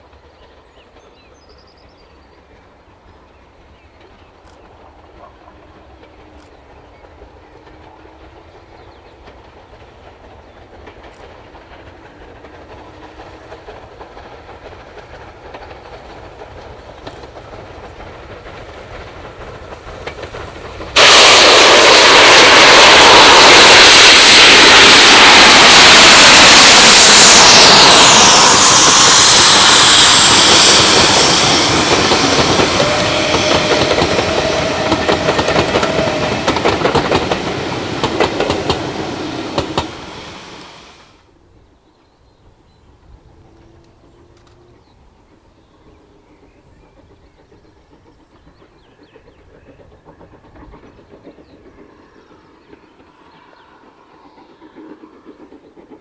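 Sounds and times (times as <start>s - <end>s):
steam train passing: 0.0s - 56.0s.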